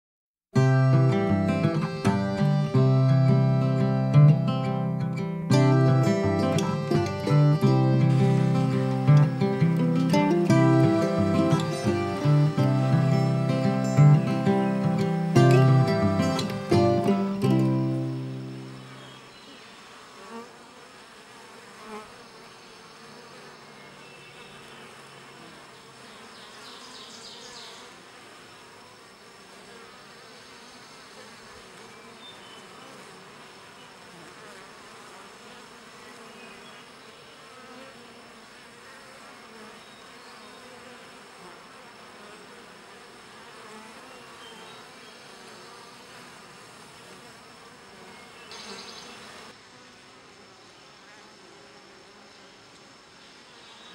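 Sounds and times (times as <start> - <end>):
bees buzzing: 0.6 - 53.9.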